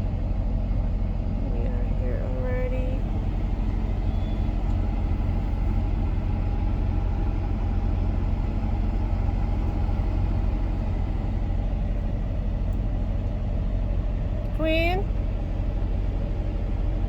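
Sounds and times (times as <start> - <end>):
truck engine drone from inside cab: 0.0 - 17.0.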